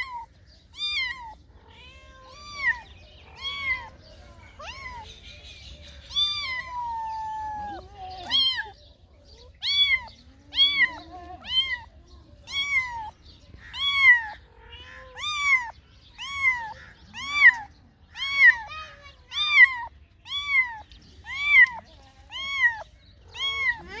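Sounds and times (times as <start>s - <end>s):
cat meowing: 0.0s - 5.2s, 6.0s - 8.8s, 9.4s - 24.0s.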